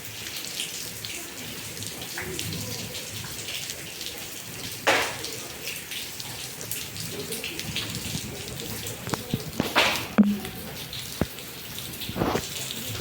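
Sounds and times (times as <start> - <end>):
rain falling steadily: 0.0 - 13.0
water drips and splashes: 0.0 - 13.0.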